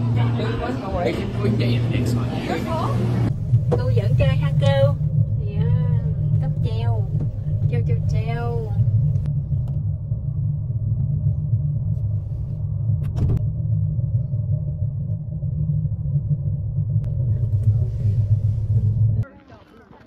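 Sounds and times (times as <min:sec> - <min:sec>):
gondola cabin rumble: 0:00.0 - 0:20.0.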